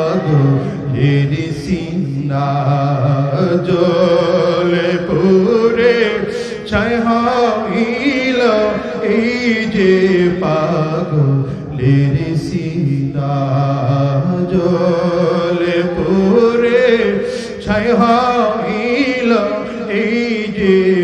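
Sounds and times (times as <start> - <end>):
man singing devotional song: 0.0 - 21.0.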